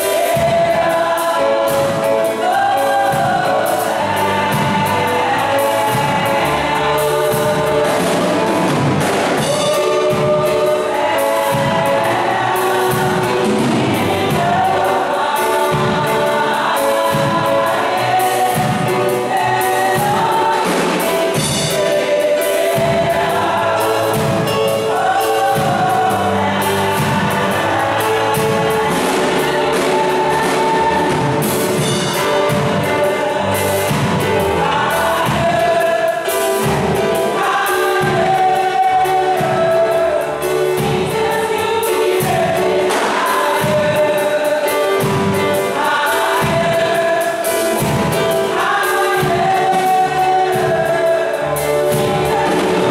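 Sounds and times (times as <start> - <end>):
women's choir singing: 0.0 - 52.9.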